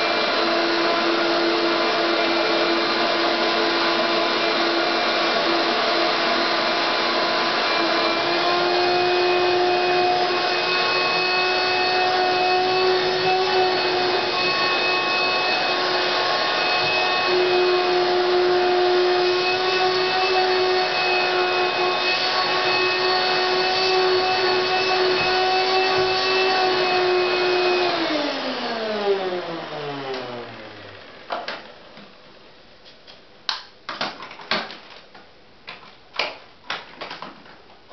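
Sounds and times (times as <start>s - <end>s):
vacuum motor winding down: 0.0s - 31.4s
vacuum cleaner whine: 0.0s - 32.5s.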